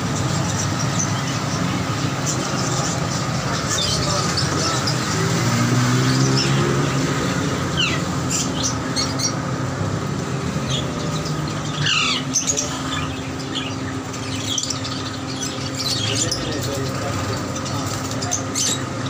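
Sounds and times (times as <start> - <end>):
low mechanical drone: 0.0 - 19.0
parrots chirping and squawking: 0.0 - 19.0.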